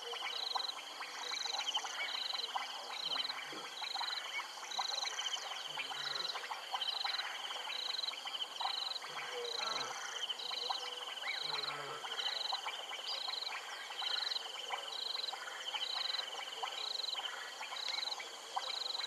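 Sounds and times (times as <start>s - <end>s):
frog chirps and clicks: 0.0s - 19.0s
frogs pulsed trills: 0.0s - 19.0s.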